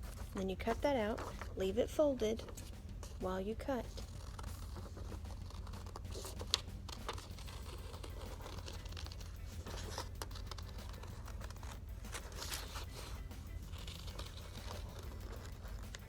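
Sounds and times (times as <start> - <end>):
paper rustling and crinkling: 0.0 - 1.7, 2.3 - 16.0
scissors snipping paper: 0.0 - 1.7, 2.3 - 16.0.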